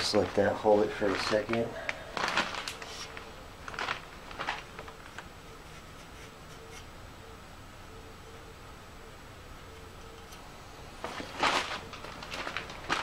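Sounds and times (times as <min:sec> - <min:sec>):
parts rubbing and scraping: 0:00.0 - 0:07.4, 0:09.6 - 0:13.0
faint hum: 0:00.0 - 0:13.0.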